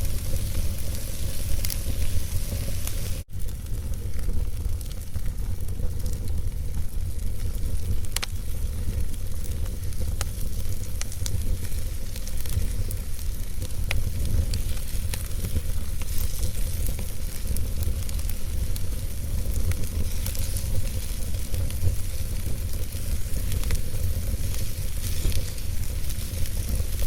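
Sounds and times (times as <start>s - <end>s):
fire crackles and pops: 0.0s - 27.0s
fire rumbling and hissing: 0.0s - 27.0s.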